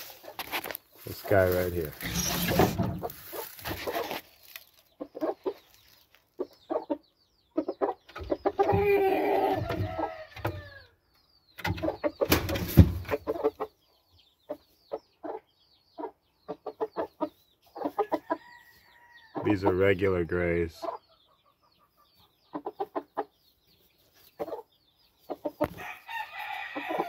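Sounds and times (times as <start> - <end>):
chickens clucking: 0.0 - 10.8, 11.5 - 27.0.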